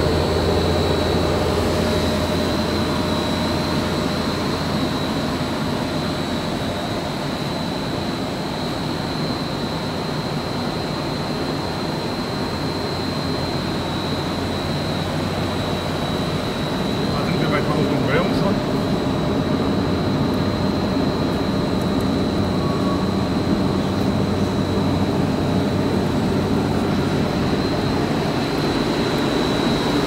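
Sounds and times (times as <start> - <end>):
thin high whine: 0.0 - 30.0.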